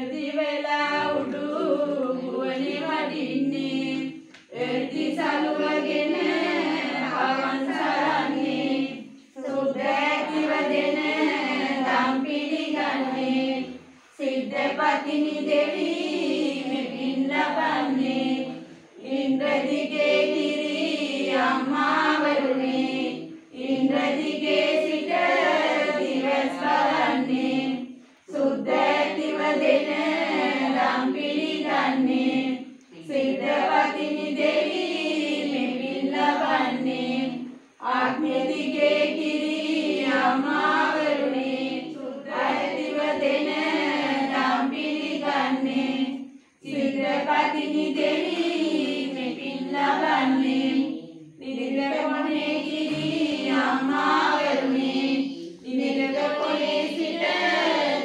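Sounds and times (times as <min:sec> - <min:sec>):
women chanting in unison: 0:00.0 - 0:58.0.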